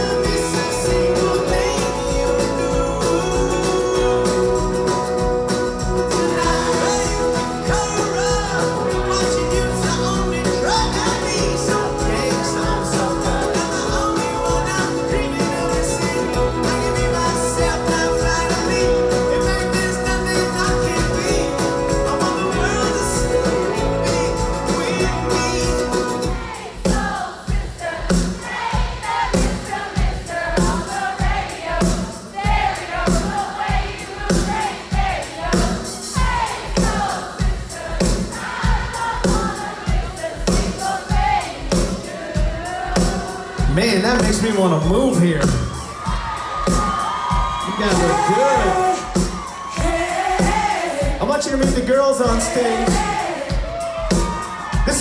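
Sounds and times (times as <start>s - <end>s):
live pop-rock band: 0.0s - 55.0s
people singing: 0.0s - 55.0s
regular drum beat: 0.0s - 55.0s.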